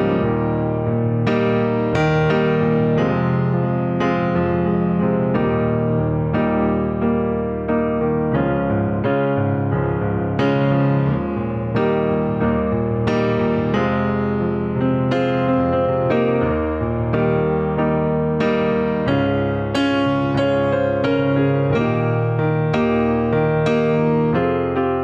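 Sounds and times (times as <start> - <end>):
slow gentle piano: 0.0 - 25.0.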